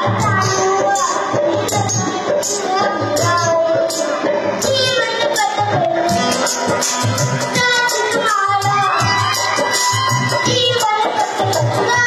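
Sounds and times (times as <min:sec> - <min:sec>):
backing music with drum beat: 0:00.0 - 0:12.0
child singing: 0:00.0 - 0:12.0.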